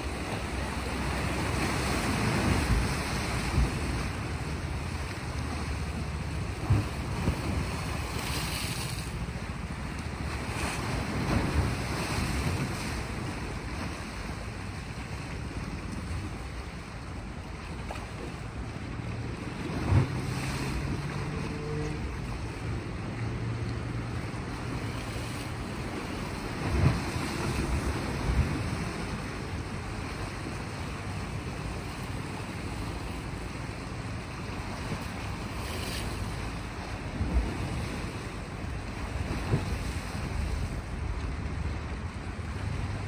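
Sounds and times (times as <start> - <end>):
waves washing on rocky shore: 0.0 - 43.0.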